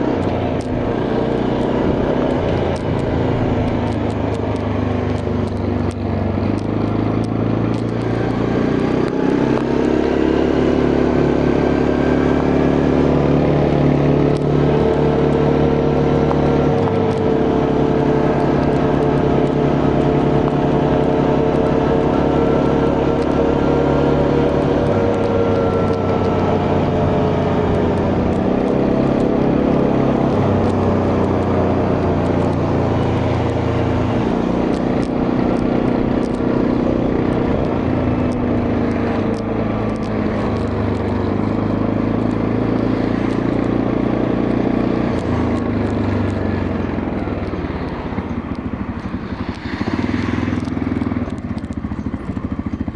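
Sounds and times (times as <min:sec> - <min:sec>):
quad bike engine running: 0:00.0 - 0:52.9.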